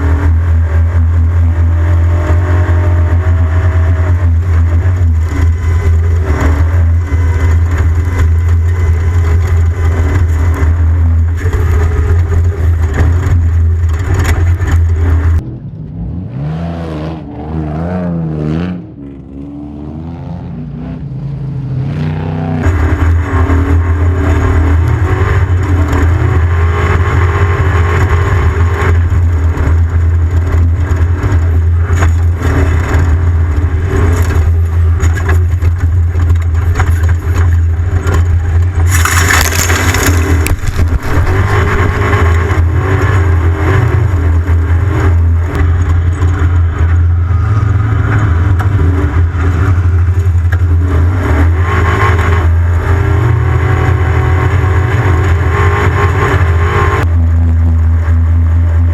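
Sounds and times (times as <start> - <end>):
vehicle engine under load: 0.0 - 58.9
rattling over rough ground: 1.0 - 16.1, 22.6 - 57.9.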